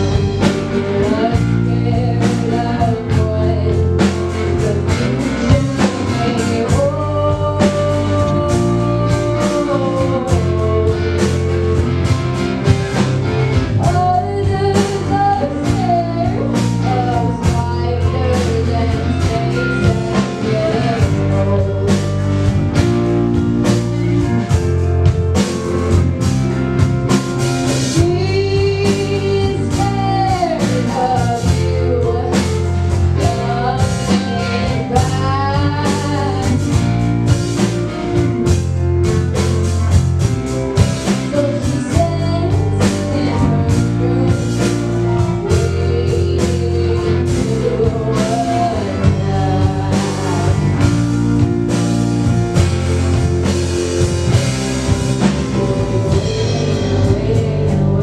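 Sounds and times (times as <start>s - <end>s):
rock band playing: 0.0s - 58.0s
wavering electric guitar lead: 0.0s - 58.0s.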